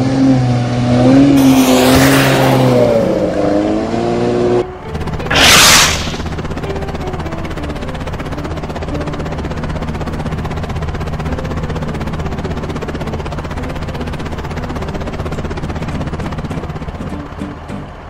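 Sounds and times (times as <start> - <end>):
cartoon engine drone with flutter: 0.0 - 18.0.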